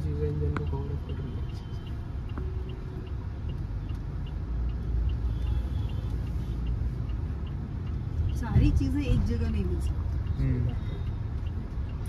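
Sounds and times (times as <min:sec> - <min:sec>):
car engine and road rumble: 0:00.0 - 0:12.0
turn indicator ticking: 0:00.0 - 0:12.0.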